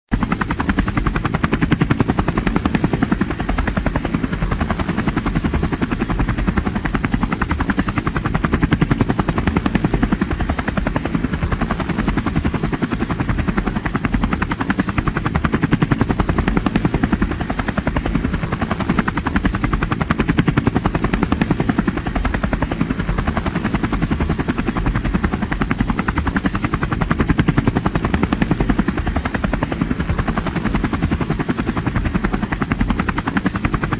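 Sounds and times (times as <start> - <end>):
helicopter rotor chopping: 0.1 - 33.9.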